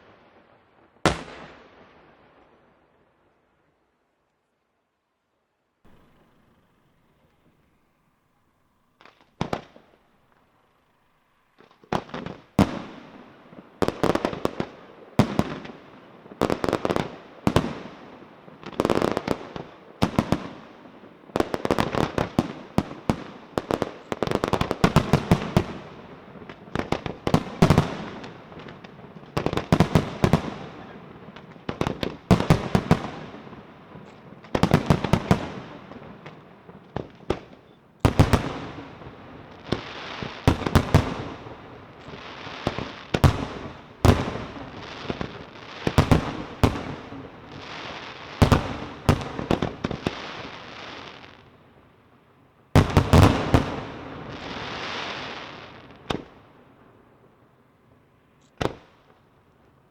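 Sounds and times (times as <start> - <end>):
fireworks bangs and crackles: 0.0 - 2.7, 9.0 - 10.5, 11.6 - 52.0, 52.7 - 57.4, 58.5 - 59.9.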